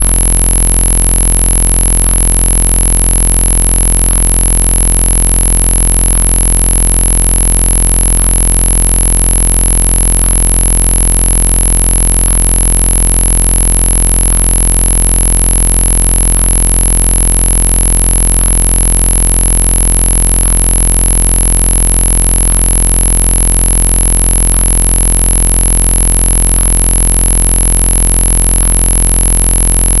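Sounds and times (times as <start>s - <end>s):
faint electronic blips: 0.0s - 30.0s
harsh electronic noise: 0.0s - 30.0s.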